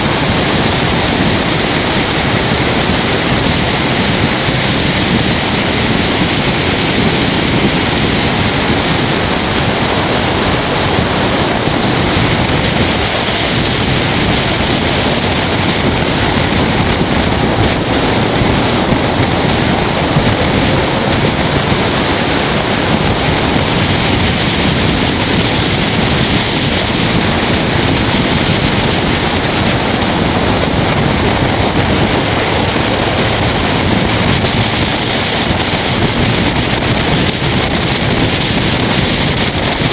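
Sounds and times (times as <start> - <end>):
race car road noise: 0.0 - 39.9
wind rush: 0.0 - 39.9.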